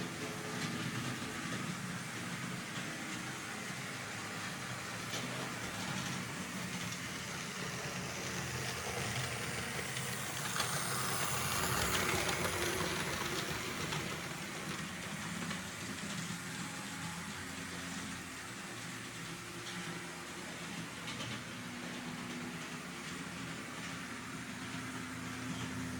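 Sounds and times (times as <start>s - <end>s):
model train running on track: 0.0s - 25.9s.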